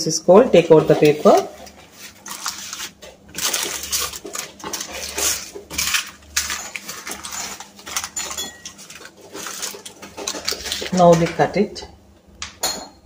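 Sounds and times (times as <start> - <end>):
baking paper crinkling: 0.5 - 11.6.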